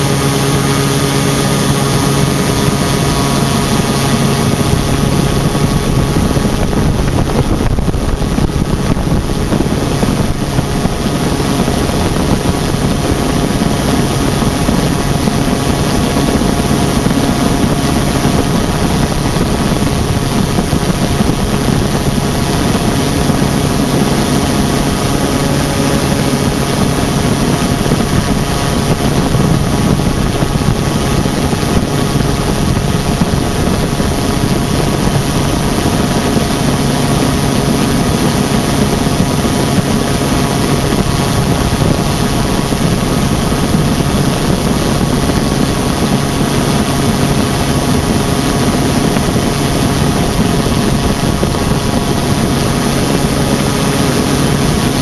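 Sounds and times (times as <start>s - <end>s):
ultralight engine and propeller: 0.0s - 55.0s
wind rushing over microphone: 0.0s - 55.0s.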